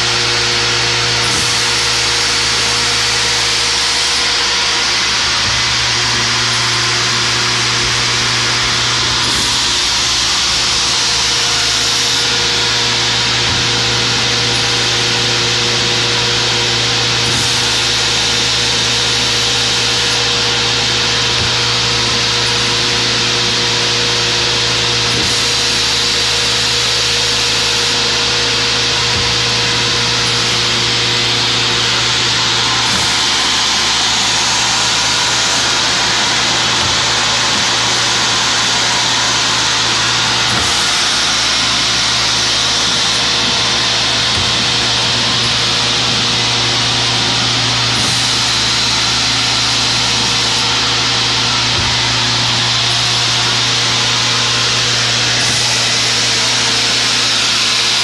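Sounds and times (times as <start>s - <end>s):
cold saw motor hum and hiss: 0.0s - 58.0s.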